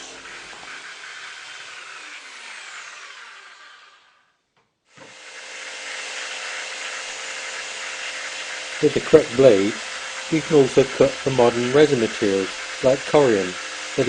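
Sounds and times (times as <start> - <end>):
jigsaw cutting chipboard: 0.0 - 4.3, 4.9 - 14.0.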